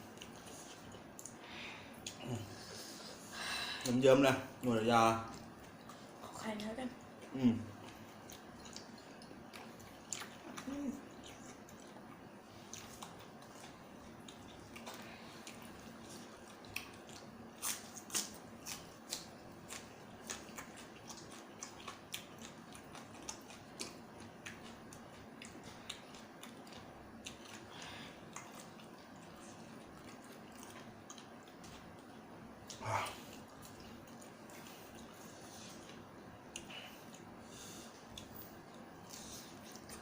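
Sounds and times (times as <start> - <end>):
person chewing food: 0.0 - 3.2, 4.6 - 40.0.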